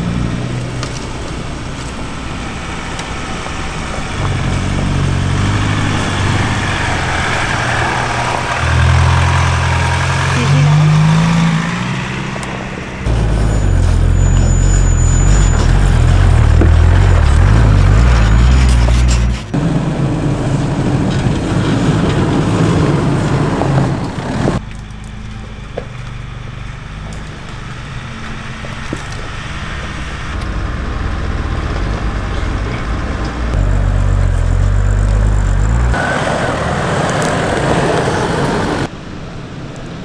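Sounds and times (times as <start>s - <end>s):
vehicle engine and tyre rumble: 0.0s - 40.0s.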